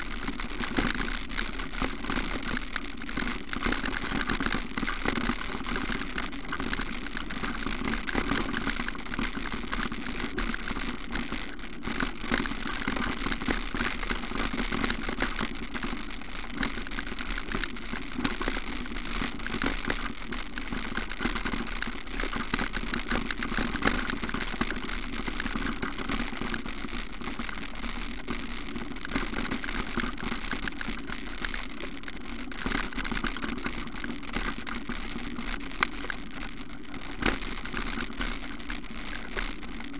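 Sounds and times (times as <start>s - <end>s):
camera rattling and clicking: 0.1s - 39.9s.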